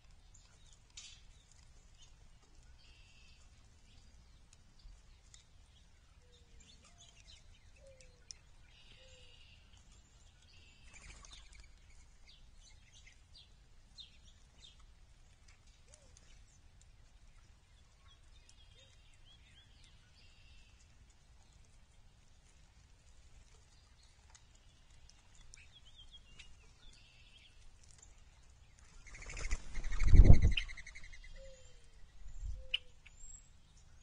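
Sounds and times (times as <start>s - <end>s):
rustle: 0.0s - 34.0s
small birds chirping: 0.0s - 34.0s.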